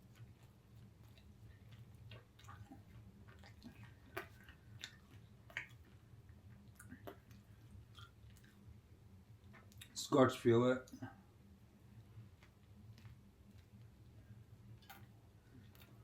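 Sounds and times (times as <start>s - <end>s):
wet chewing and mouth clicks: 0.0s - 10.0s, 10.8s - 16.0s
low steady hum: 0.0s - 16.0s.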